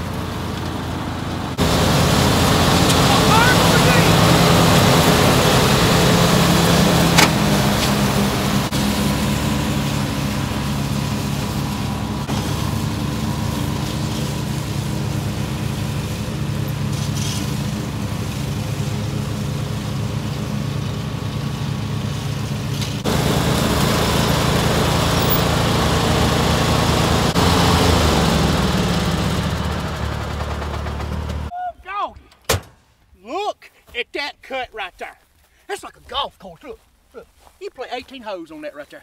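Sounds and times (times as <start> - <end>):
mower engine running: 0.0 - 31.5.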